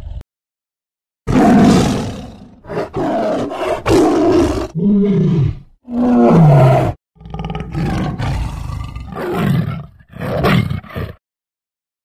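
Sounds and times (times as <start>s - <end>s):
tiger roaring and growling: 1.3s - 11.2s.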